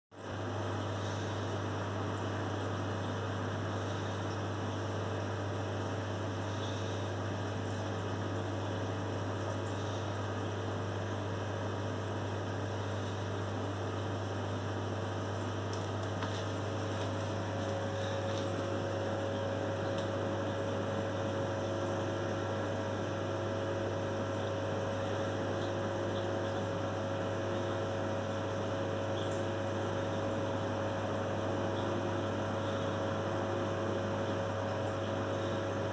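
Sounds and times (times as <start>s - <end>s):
aquarium equipment humming: 0.1s - 35.9s.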